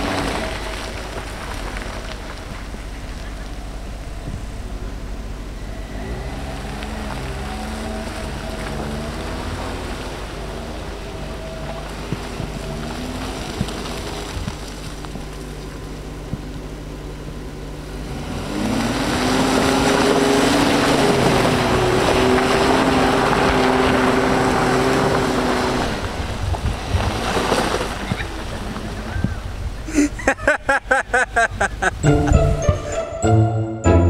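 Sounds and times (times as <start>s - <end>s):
tyres spinning in mud: 0.0s - 5.4s, 6.0s - 16.5s, 17.9s - 31.9s
car engine revving: 0.0s - 29.8s.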